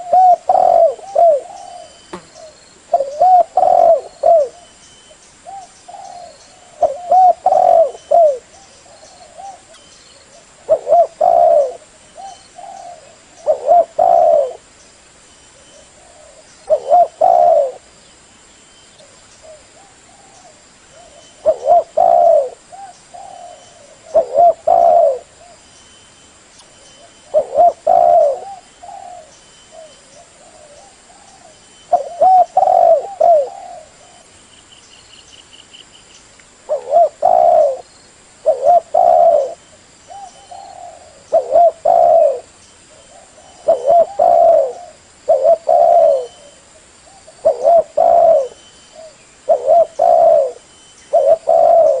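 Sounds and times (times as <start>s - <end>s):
dove cooing: 0.0s - 14.7s, 15.6s - 17.9s, 19.0s - 25.6s, 26.9s - 34.3s, 36.7s - 52.0s.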